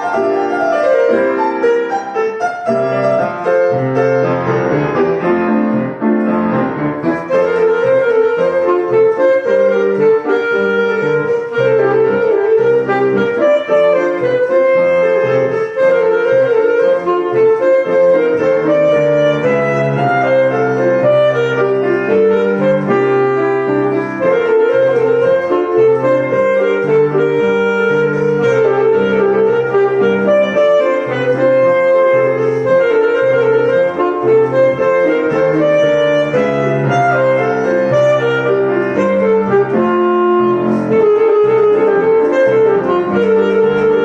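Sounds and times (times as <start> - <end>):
piano accompaniment: 0.0 - 44.0
solo wind instrument melody: 0.0 - 44.0.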